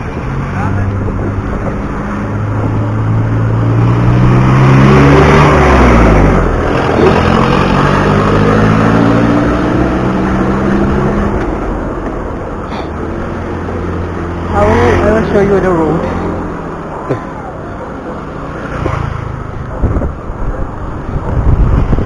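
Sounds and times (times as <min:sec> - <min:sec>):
vehicle engine passing by: 0:00.0 - 0:22.0
wind and road noise: 0:00.0 - 0:22.0.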